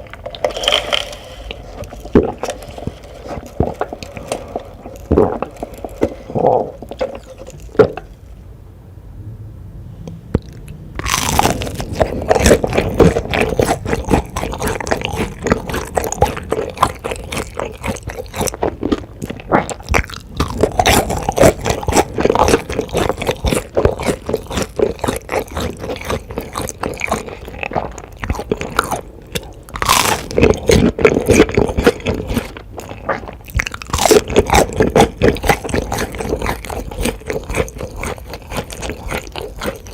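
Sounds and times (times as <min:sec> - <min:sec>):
chewing crunchy food: 0:00.0 - 0:08.1, 0:10.4 - 0:39.9.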